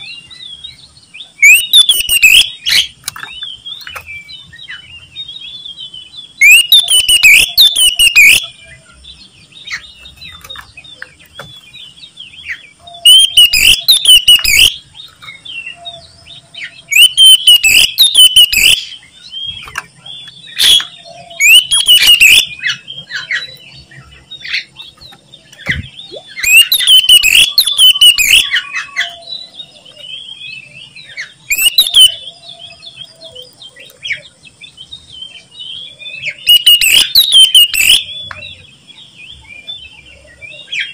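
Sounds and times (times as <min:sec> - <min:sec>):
bird singing harsh song: 0:00.0 - 0:40.9
soft bird chirps: 0:00.0 - 0:40.9.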